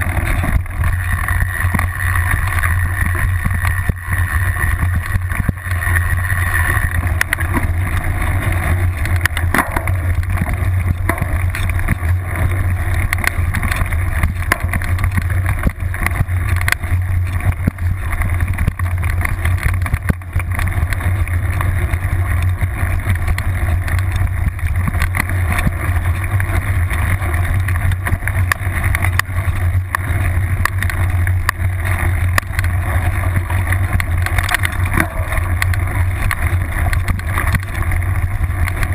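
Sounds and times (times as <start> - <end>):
bike clicks and rattles: 0.0 - 38.9
wind rumble on microphone: 0.0 - 38.9.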